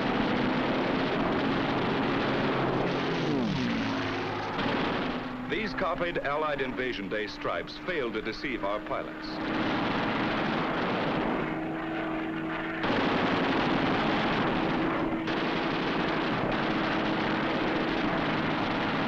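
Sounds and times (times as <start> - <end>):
fighter plane engine roaring: 0.0 - 19.0.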